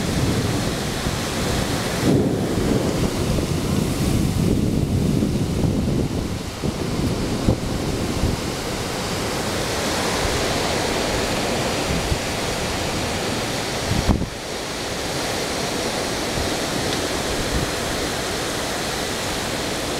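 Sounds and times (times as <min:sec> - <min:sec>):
gusting wind: 0:00.0 - 0:19.9
heavy rain pouring: 0:00.0 - 0:19.9.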